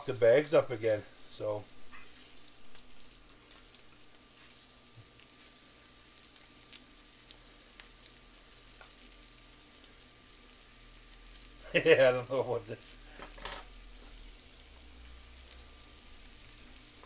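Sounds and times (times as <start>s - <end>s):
frying sizzle with pops: 0.0s - 17.0s.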